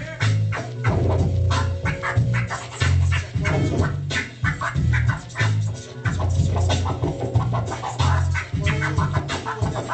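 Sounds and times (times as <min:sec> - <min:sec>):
backing beat with deep bass: 0:00.0 - 0:09.9
vinyl record scratching: 0:00.0 - 0:09.9.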